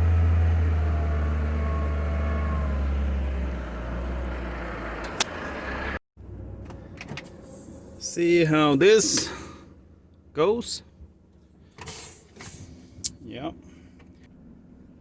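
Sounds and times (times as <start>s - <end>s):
diesel truck engine rumbling: 0.0s - 14.9s.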